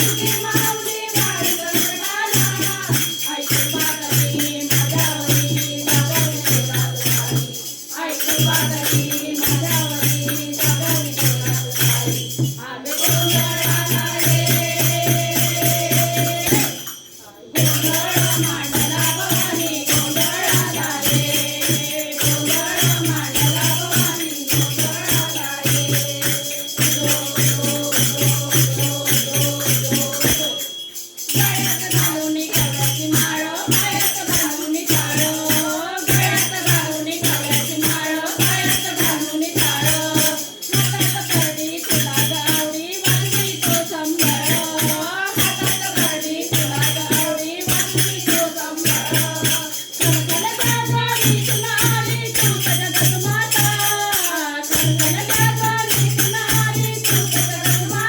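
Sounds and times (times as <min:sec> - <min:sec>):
devotional singing: 0:00.0 - 0:58.0
jingling percussion: 0:00.0 - 0:58.0.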